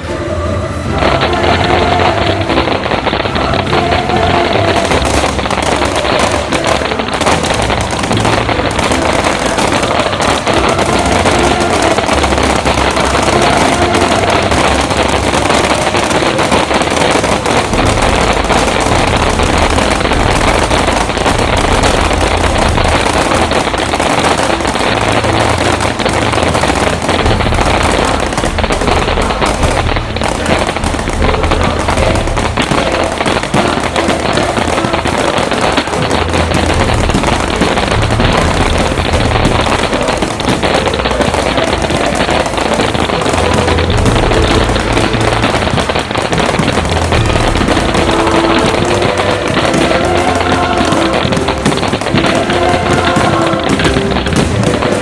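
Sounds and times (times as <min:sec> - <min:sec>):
fireworks bangs: 0:00.0 - 0:55.0
music playing: 0:00.0 - 0:55.0.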